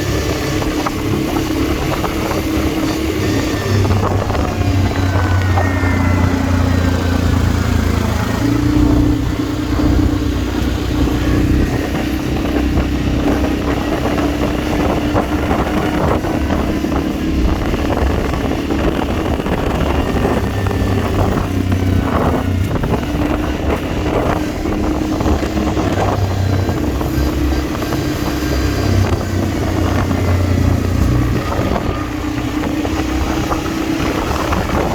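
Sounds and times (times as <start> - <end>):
quad bike engine running: 0.0 - 34.9
wind buffeting microphone: 0.0 - 34.9.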